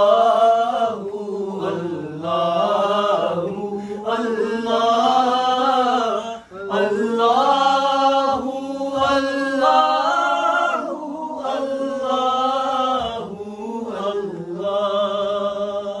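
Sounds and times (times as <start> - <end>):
low vocal drone: 0.0 - 16.0.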